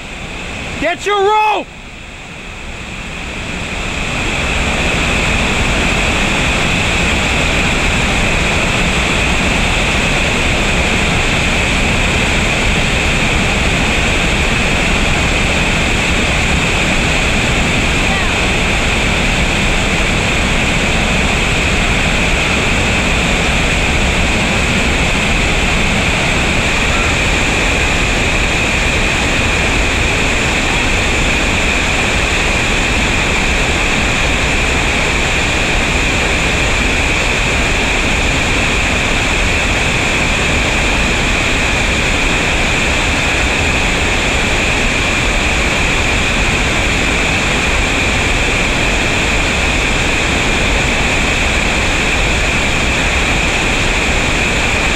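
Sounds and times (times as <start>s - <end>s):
whitewater rushing through rapids: 0.0s - 54.9s.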